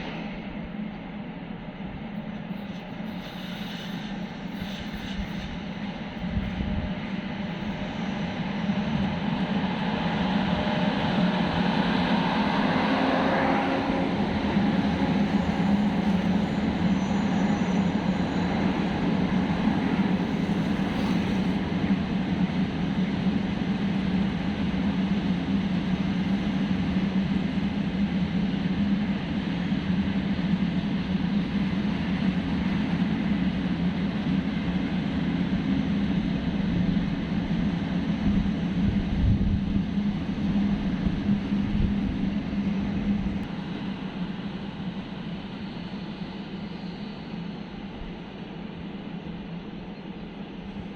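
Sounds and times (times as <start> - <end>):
train rolling past: 0.0 - 50.9.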